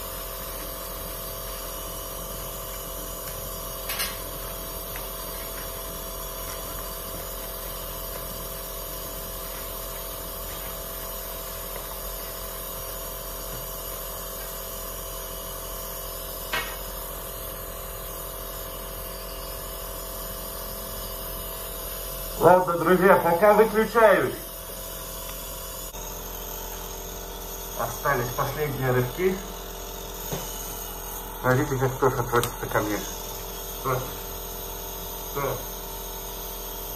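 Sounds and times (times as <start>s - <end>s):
nebulizer motor hum: 0.0s - 36.9s.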